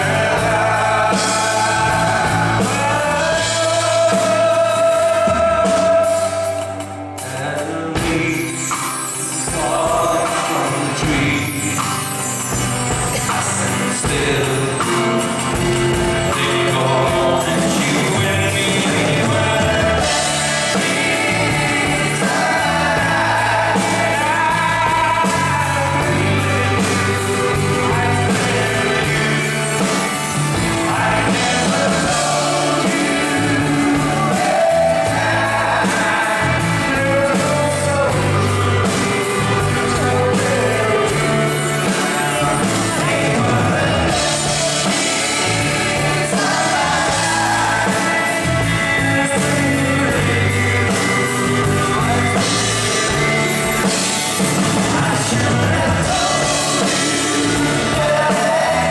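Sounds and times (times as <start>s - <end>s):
acoustic and electric guitars: 0.0s - 58.9s
bass line: 0.0s - 58.9s
person singing: 0.0s - 58.9s.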